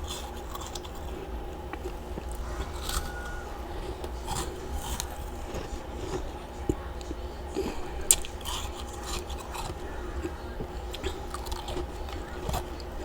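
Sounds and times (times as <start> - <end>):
frost being crunched by chewing: 0.0 - 13.0.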